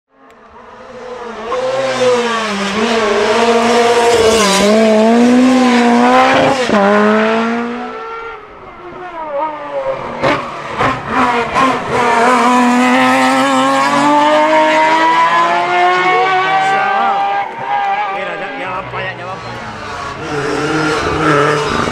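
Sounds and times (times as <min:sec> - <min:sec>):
rally car engines revving: 0:00.1 - 0:21.9.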